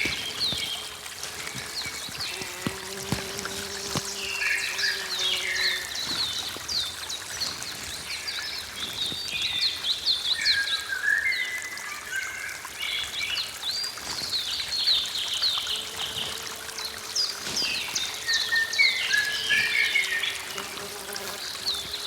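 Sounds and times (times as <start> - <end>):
running water trickling: 0.0 - 22.0.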